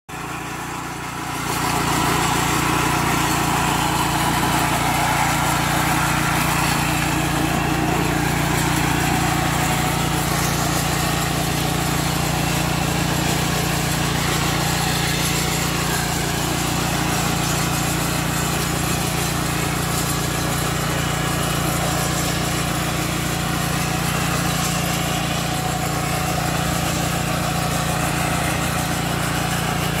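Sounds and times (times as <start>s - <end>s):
mower engine running: 0.1s - 30.0s.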